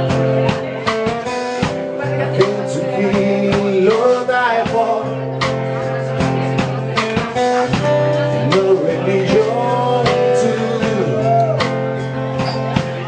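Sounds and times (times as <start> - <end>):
acoustic guitar strumming: 0.0 - 13.0
bending lead guitar melody: 0.0 - 13.0
drum kit steady beat: 0.0 - 13.0.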